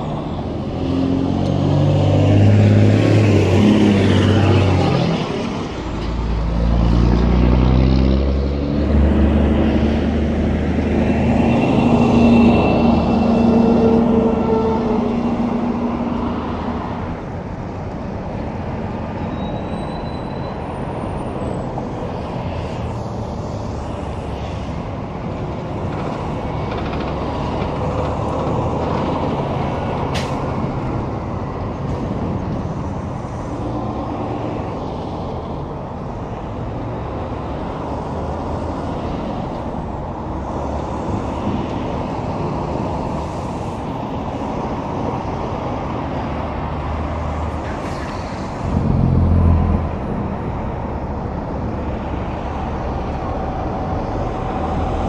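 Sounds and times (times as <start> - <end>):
tyre noise from passing vehicles: 0.0 - 55.0
heavy diesel engines running: 8.8 - 55.0.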